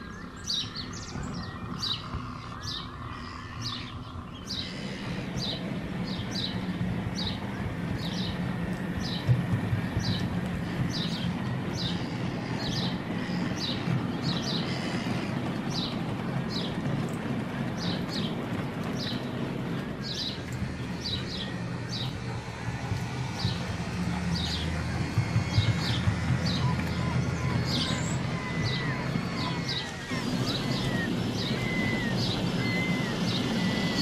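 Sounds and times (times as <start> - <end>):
bird chirping: 0.0 - 34.0.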